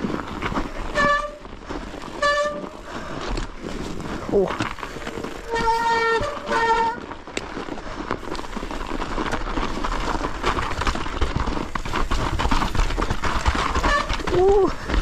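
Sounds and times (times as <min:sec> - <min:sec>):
bike rattles and knocks: 0:00.0 - 0:15.0
bike tyres crunching snow: 0:00.0 - 0:15.0.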